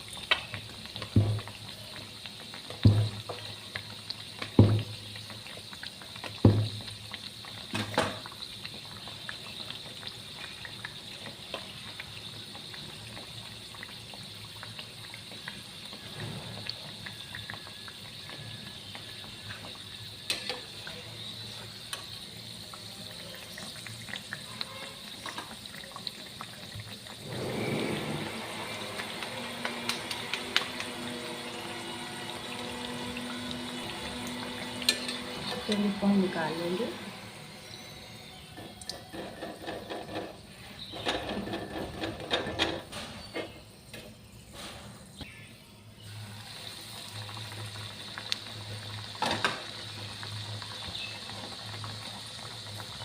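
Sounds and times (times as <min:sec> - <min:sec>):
food deep-frying in hot oil: 0:00.0 - 0:53.0.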